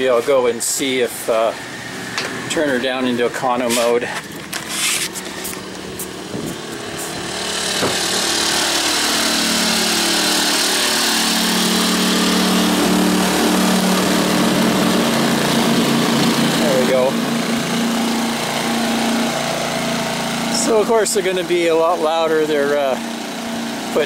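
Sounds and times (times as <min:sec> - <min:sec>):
generators humming: 0:00.0 - 0:24.0.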